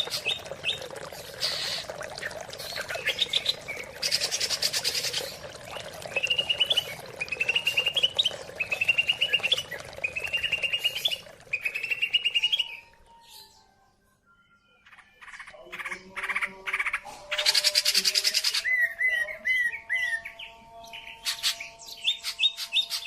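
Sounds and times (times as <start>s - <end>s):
bird singing trilled phrases: 0.0s - 13.8s, 14.5s - 23.0s.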